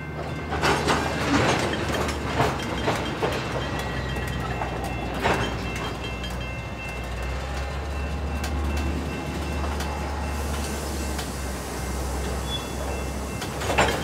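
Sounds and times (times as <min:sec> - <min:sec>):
freight train rumbling: 0:00.0 - 0:14.0
wheels clunking over rail joints: 0:00.0 - 0:14.0.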